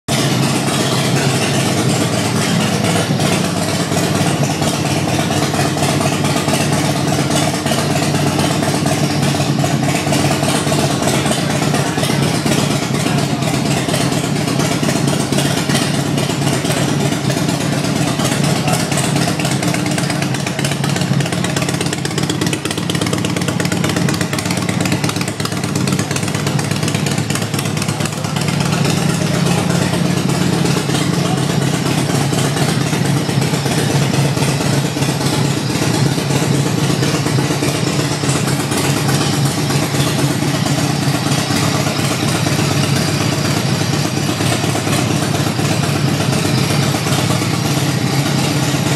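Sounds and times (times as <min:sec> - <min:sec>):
motorcycle engine running: 0:00.1 - 0:48.9.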